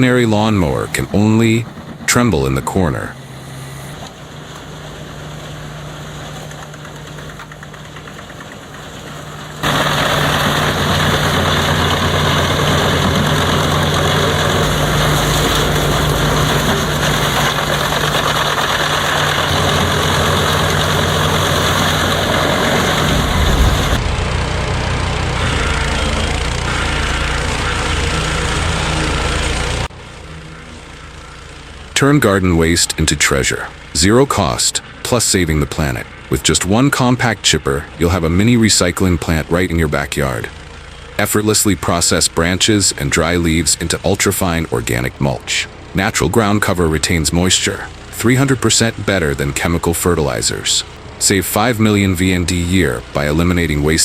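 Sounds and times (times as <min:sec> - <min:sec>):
diesel engine running: 0:00.0 - 0:54.0
wood crusher grinding wood: 0:00.0 - 0:54.0.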